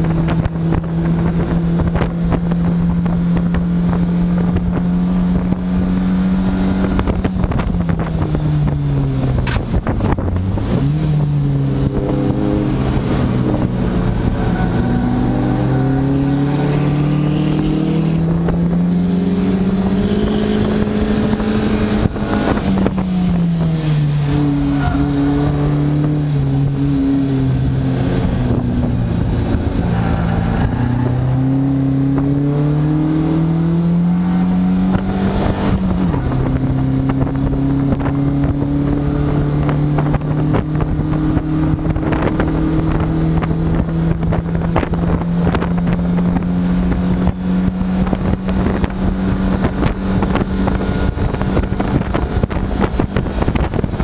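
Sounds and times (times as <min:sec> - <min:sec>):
race car engine: 0:00.0 - 0:54.0
wind and road noise: 0:00.0 - 0:54.0.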